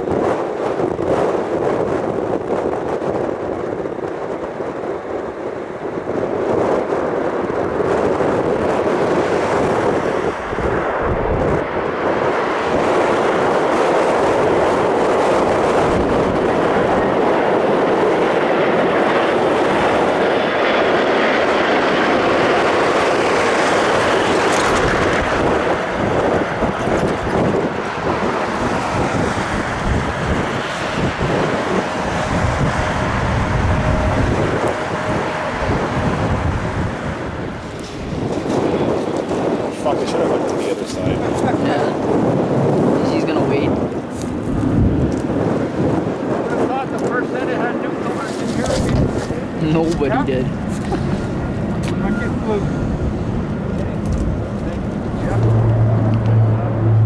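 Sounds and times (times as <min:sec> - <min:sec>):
jet engine roar: 0:00.0 - 0:57.0
wind buffeting microphone: 0:00.0 - 0:57.0.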